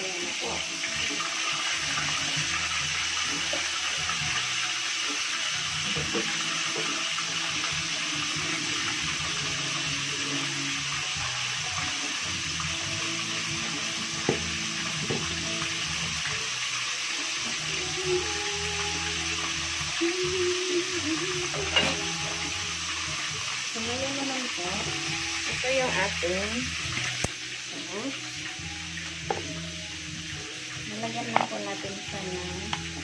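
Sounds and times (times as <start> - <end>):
chicken frying in hot oil: 0.0 - 33.0.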